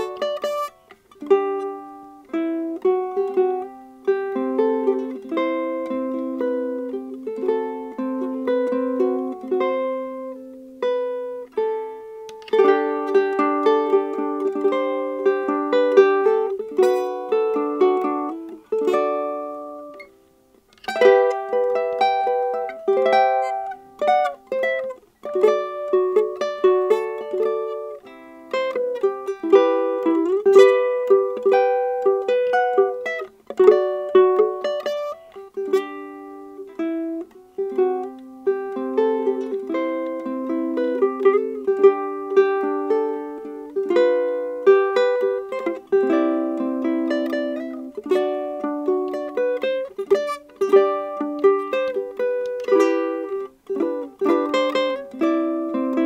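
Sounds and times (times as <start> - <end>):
ukulele fingerstyle: 0.0 - 56.0.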